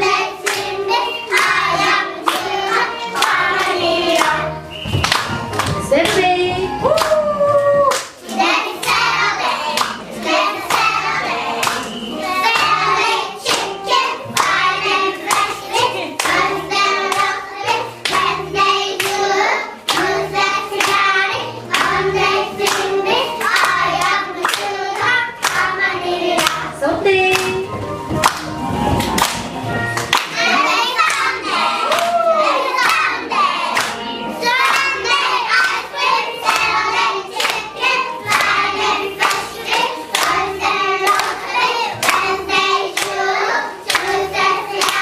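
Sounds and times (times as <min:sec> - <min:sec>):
steady clapping: 0:00.0 - 0:04.4, 0:05.0 - 0:06.2, 0:07.9 - 0:26.7, 0:28.2 - 0:32.2, 0:32.8 - 0:45.0
children singing: 0:00.0 - 0:05.3, 0:08.1 - 0:26.8, 0:30.2 - 0:45.0
backing track music: 0:00.0 - 0:45.0.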